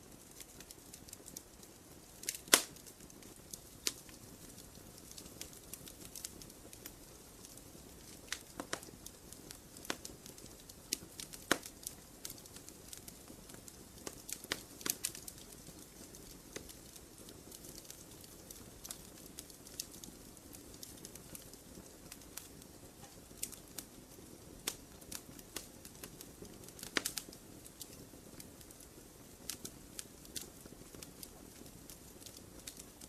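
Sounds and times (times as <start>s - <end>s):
campfire crackling and popping: 0.0s - 33.0s
campfire hissing: 0.0s - 33.0s.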